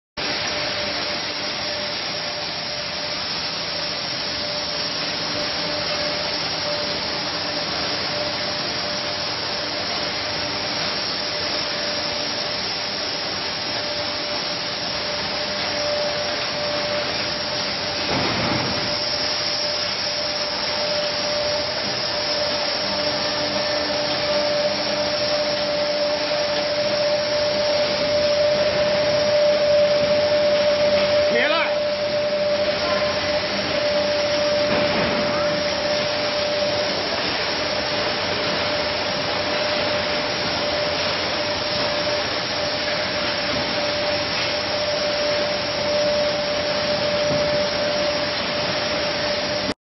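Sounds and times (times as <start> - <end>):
bottling machinery running: 0.2 - 49.8.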